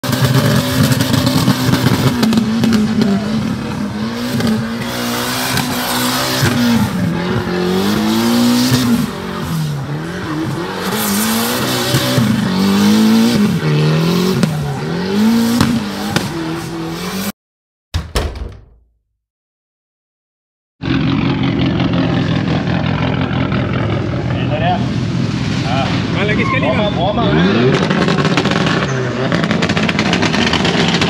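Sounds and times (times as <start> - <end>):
car engine revving: 0.0 - 17.3, 20.8 - 31.0.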